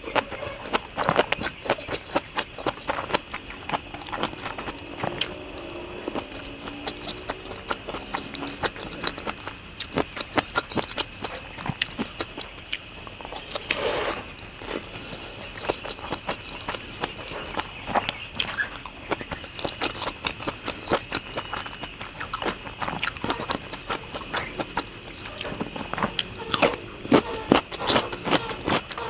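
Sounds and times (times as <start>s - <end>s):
person chewing close up: 0.0s - 29.0s
pulsing insect trill: 0.0s - 29.0s.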